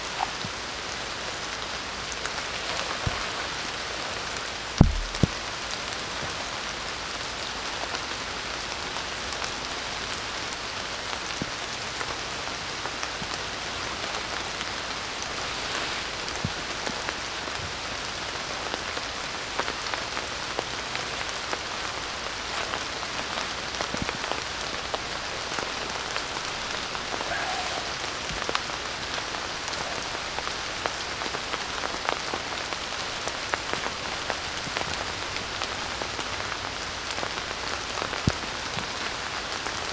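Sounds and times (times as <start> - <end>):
rain falling on leaves and grass: 0.0 - 39.9
sharp raindrops: 0.0 - 39.9.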